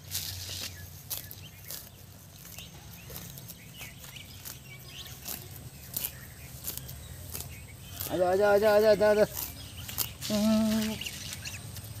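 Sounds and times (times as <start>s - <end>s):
geese tearing at grass: 0.0s - 12.0s.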